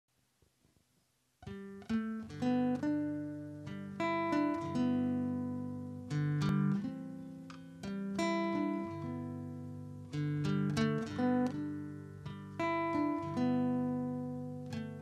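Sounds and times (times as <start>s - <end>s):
plucked string instrument: 1.5s - 15.0s.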